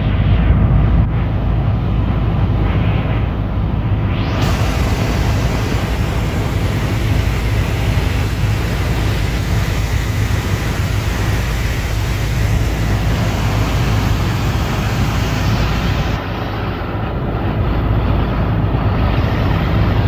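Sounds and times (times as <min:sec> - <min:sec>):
helicopter drone inside cabin: 0:00.0 - 0:20.0.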